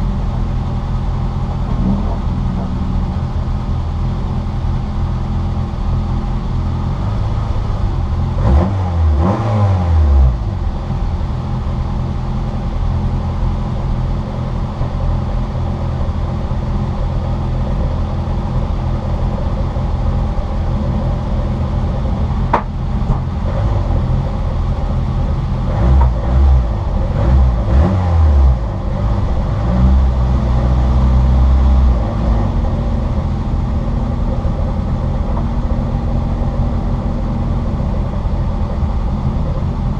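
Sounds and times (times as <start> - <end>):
car engine running hard: 0.0 - 39.9
loud low rumbling bursts: 0.0 - 39.9.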